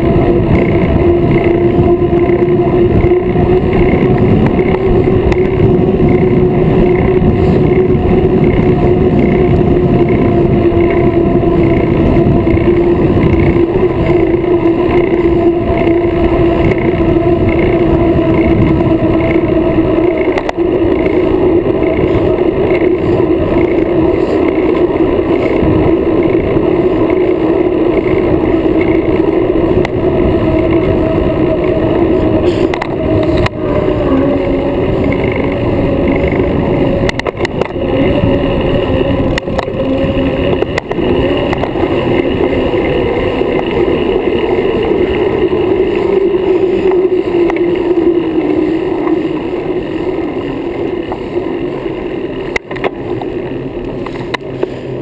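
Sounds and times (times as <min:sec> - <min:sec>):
steady hum: 0:00.0 - 0:55.0
wind and road roar: 0:00.0 - 0:55.0.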